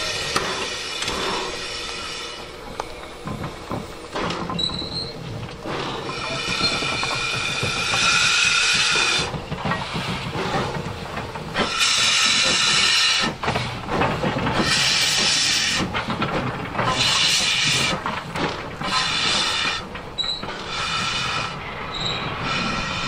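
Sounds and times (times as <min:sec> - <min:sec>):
steam locomotive hissing steam: 0:00.0 - 0:23.0.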